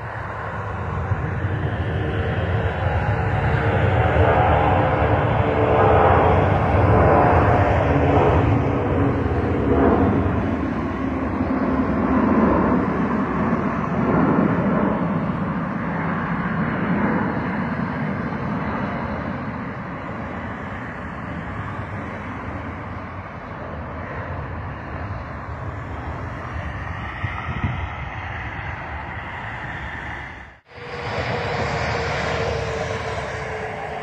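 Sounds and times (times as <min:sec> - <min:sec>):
jet engine passing low: 0:00.0 - 0:34.0.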